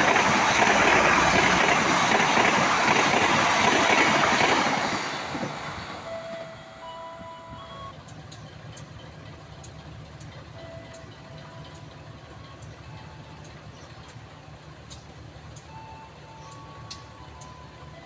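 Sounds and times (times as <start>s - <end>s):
locomotive engine idling: 0.0s - 18.0s.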